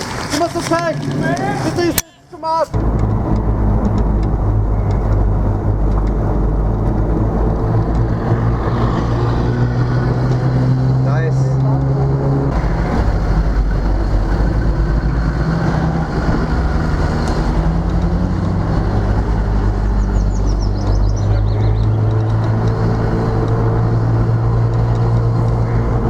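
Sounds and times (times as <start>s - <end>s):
road noise: 0.0s - 26.0s
vehicle engine running: 2.7s - 26.0s.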